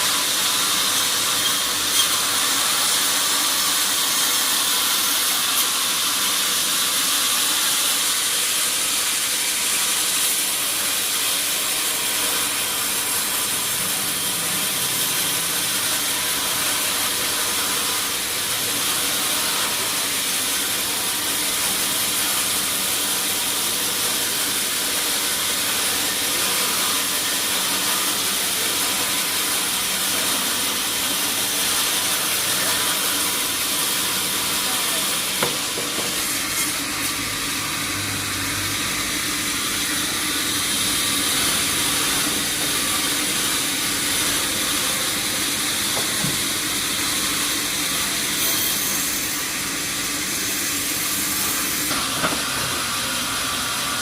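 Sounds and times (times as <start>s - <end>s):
sawmill saw hissing: 0.0s - 54.0s.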